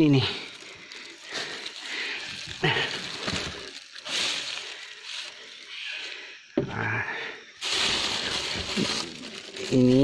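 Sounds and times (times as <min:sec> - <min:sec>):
rustling leaves and twigs: 0:00.0 - 0:06.6, 0:07.5 - 0:10.0.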